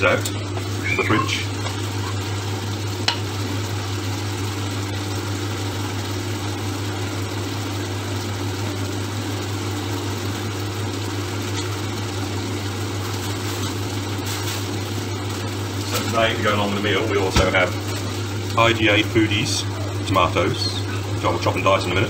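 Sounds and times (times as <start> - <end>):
meat simmering in a frying pan: 0.0 - 22.0.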